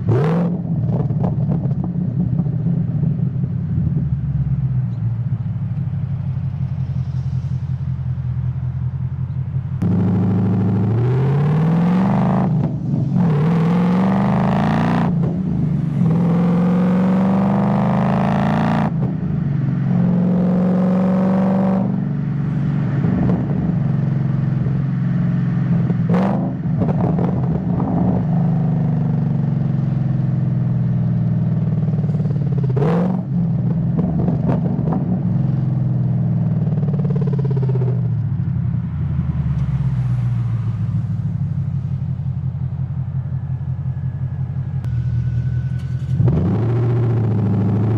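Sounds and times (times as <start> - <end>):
car engine accelerating: 3.9 - 30.1, 31.5 - 47.9.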